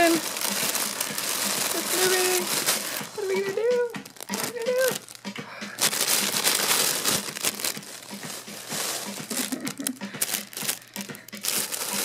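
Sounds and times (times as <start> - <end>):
nylon tunnel rustling: 0.0 - 12.0.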